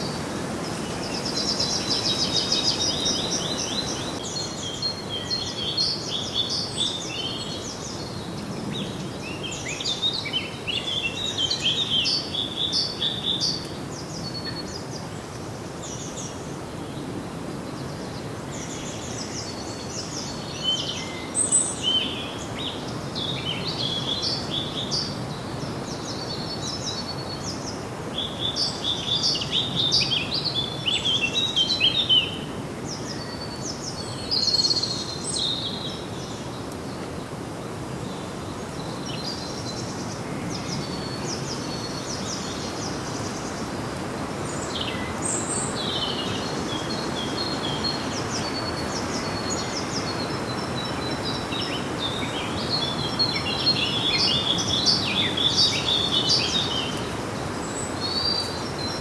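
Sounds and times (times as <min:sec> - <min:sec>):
songbirds chirping and trilling: 0:00.0 - 0:15.1, 0:17.8 - 0:59.0
outdoor background hiss: 0:00.0 - 0:59.0.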